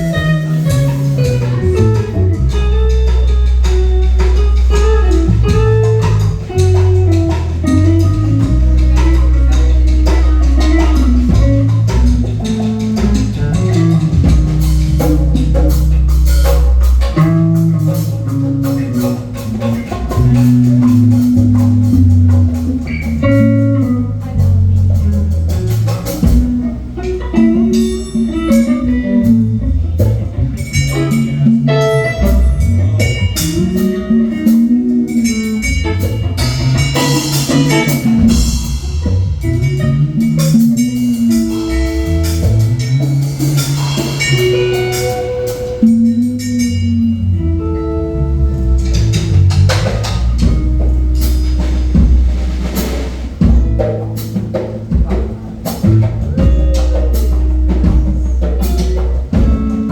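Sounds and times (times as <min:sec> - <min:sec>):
bass guitar: 0:00.0 - 0:59.9
drum kit: 0:00.0 - 0:59.9
lead guitar bending notes: 0:00.0 - 0:59.9.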